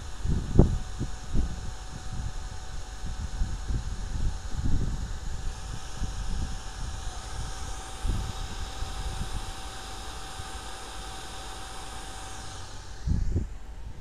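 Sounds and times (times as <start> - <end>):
computer fan hissing: 0.0 - 14.0
faint constant whine: 0.0 - 14.0.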